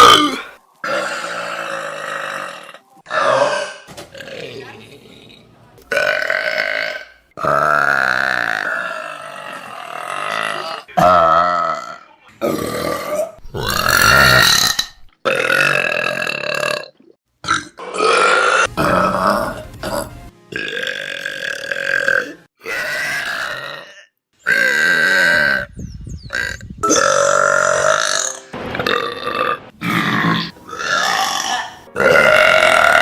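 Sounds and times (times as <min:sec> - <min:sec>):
loud drawn-out burps: 0:00.0 - 0:05.1, 0:05.9 - 0:25.7, 0:26.3 - 0:33.0.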